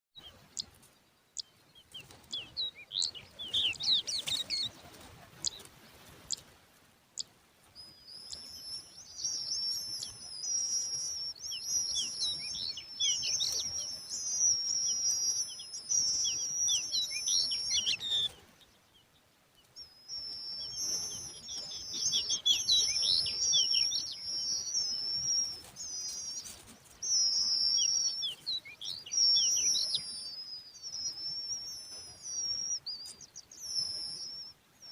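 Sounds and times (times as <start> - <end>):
bird chicks chirping: 0.2 - 6.5, 7.2 - 34.9.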